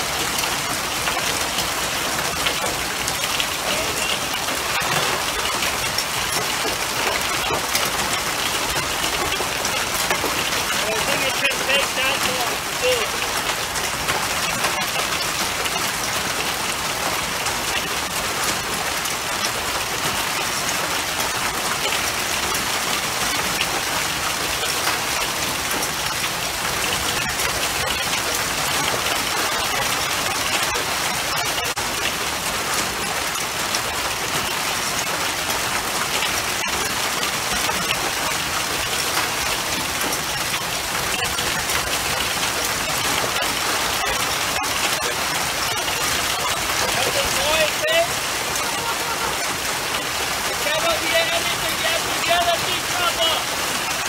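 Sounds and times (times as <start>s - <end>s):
hail and rain on concrete: 0.0s - 54.0s.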